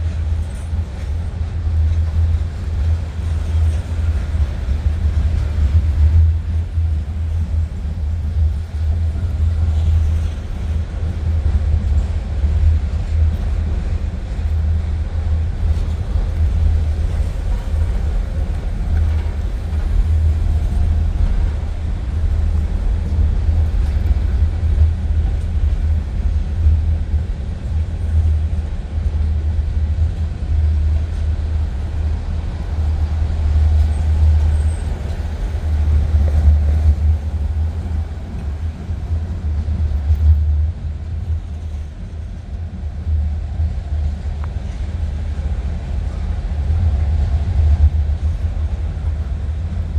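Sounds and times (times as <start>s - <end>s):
train rumbling past: 0.0s - 49.9s.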